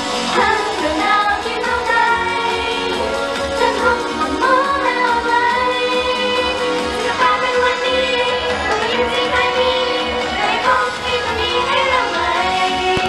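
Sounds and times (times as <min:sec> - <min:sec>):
pop song over speakers: 0:00.0 - 0:13.0
woman singing: 0:00.2 - 0:13.0.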